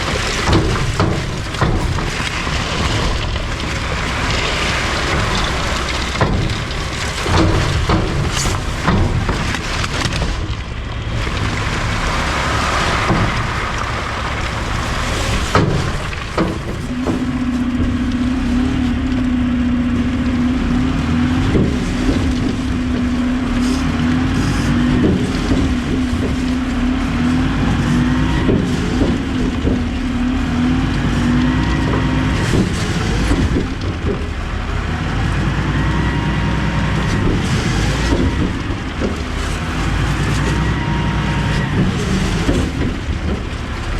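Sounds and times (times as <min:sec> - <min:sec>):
garbage truck engine rumble: 0:00.0 - 0:43.9
trash clanking and knocking: 0:00.0 - 0:43.9.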